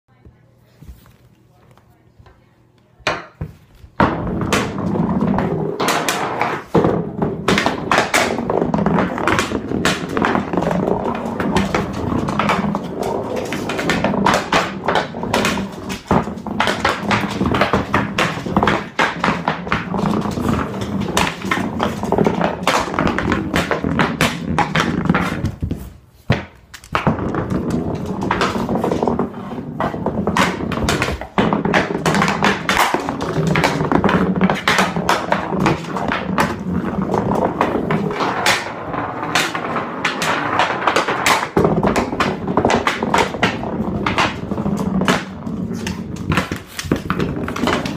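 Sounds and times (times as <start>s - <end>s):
hockey stick tapping hardwood floor: 2.2s - 47.9s.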